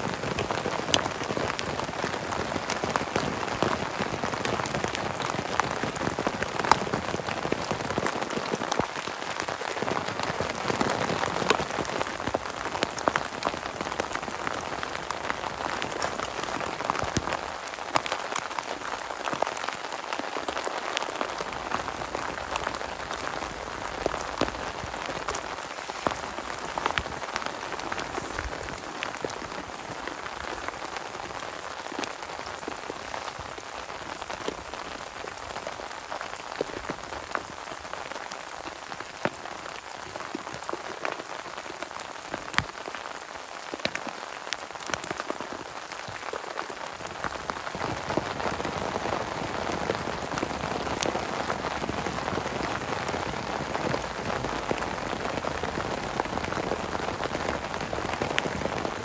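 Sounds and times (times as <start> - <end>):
raindrops tapping: 0.0 - 59.0
steady rain hiss: 0.0 - 59.0.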